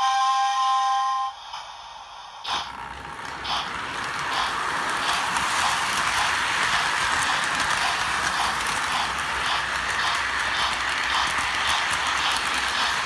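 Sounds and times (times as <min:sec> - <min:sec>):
model train wheels rumbling on rails: 0:01.6 - 0:13.0.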